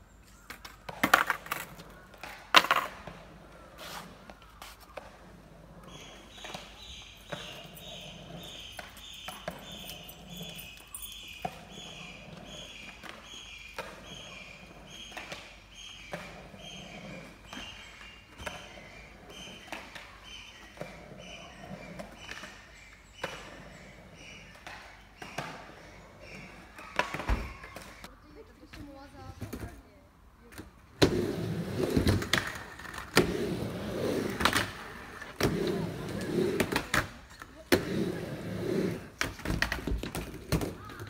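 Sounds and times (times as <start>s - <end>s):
skateboard clacking on concrete: 0.4s - 10.8s, 11.4s - 28.1s, 30.5s - 41.0s.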